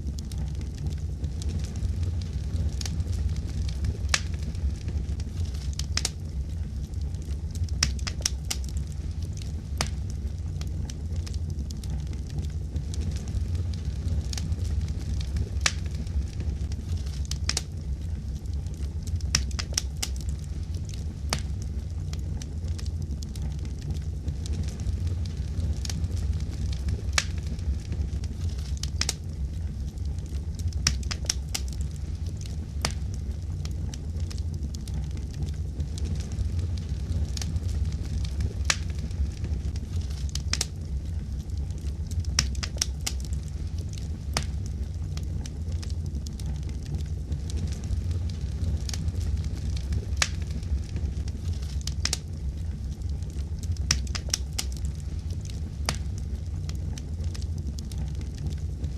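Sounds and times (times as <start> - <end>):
fire pops and snaps: 0.0 - 58.9
fire rumbling: 0.0 - 58.9.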